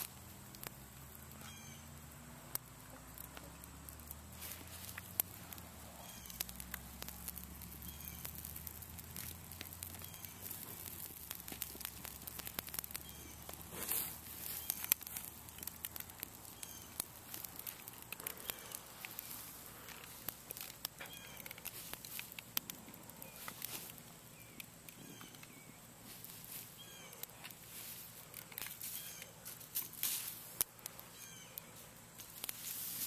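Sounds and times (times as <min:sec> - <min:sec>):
leaves and twigs fire crackling: 0:00.0 - 0:33.0.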